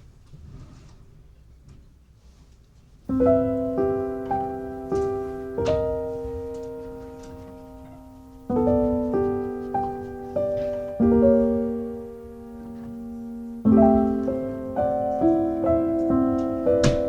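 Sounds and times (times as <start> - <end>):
slow solo piano: 3.0 - 17.0.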